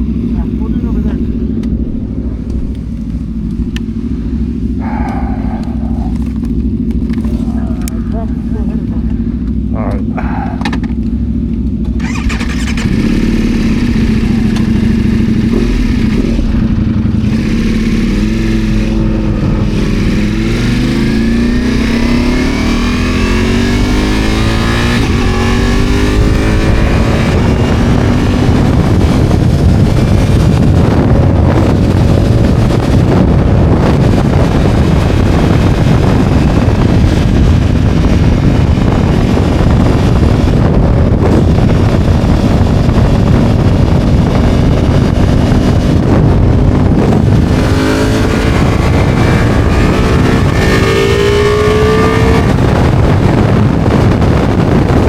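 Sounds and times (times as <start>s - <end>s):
wind rush over microphone: 0.0s - 11.3s, 11.9s - 55.0s
motorcycle engine accelerating: 0.0s - 55.0s.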